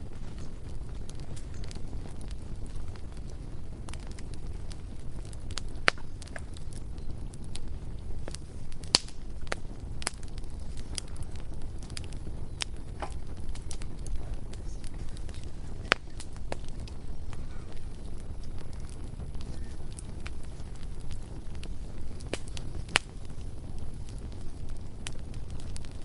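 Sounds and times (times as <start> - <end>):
bonfire crackling and popping: 0.0 - 26.0
low rumble of burning: 0.0 - 26.0.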